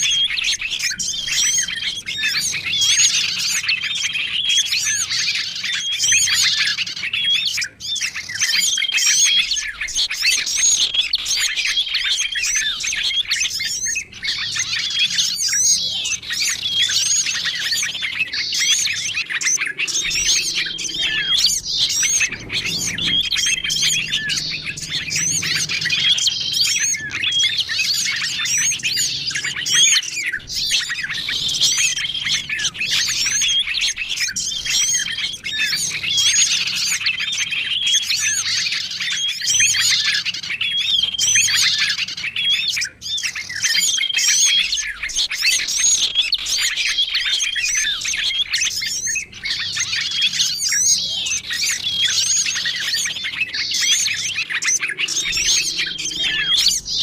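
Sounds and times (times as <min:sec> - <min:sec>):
songbirds twittering chorus: 0:00.0 - 0:57.0.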